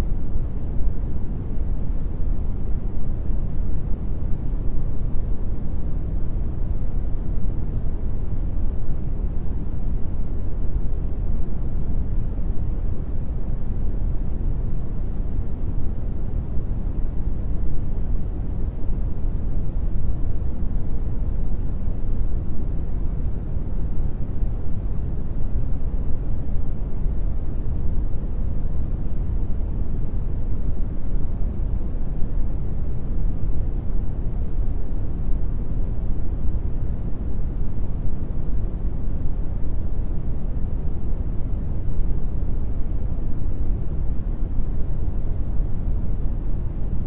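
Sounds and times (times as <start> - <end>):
brown noise hiss: 0.0 - 47.0.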